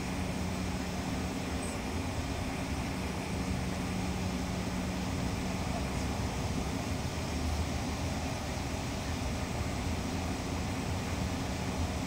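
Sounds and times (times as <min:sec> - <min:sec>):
jet engine rumble: 0:00.0 - 0:12.0
steady low hum: 0:00.0 - 0:12.0.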